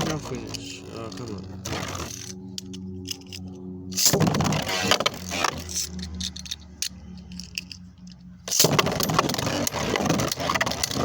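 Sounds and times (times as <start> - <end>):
low hum: 0.0 - 11.0
spinning tops clicking and scraping: 0.4 - 4.2, 4.8 - 11.0.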